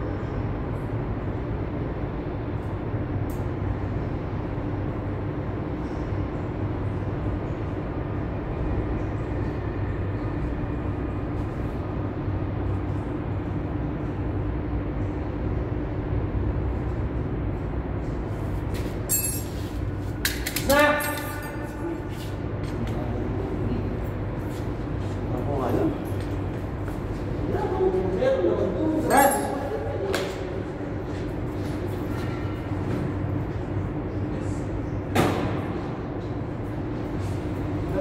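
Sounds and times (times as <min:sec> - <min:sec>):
machinery humming: 0:00.0 - 0:38.0.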